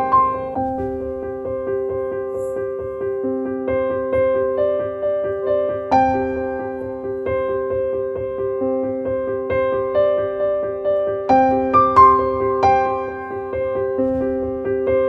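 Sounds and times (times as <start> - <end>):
piano broken chords: 0.0 - 15.0.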